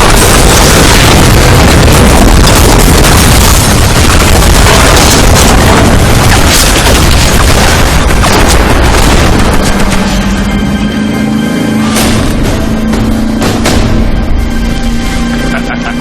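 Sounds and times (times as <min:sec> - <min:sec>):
explosions and booms: 0:00.0 - 0:11.0, 0:11.8 - 0:14.9
sharp impacts: 0:00.0 - 0:15.4
film score music: 0:00.0 - 0:16.0.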